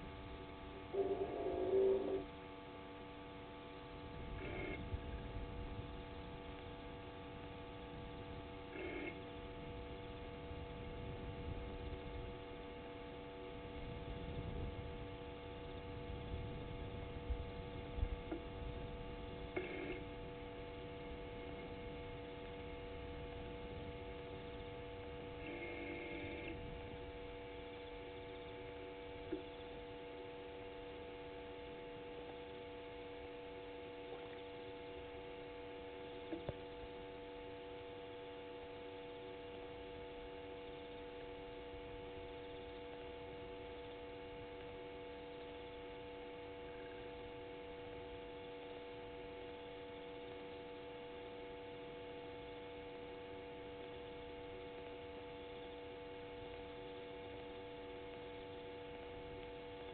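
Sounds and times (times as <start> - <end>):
faint electrical hum: 0.0 - 59.9.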